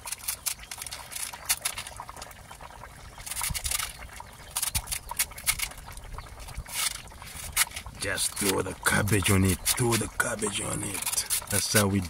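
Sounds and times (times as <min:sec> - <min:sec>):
stew bubbling: 0:00.0 - 0:12.0.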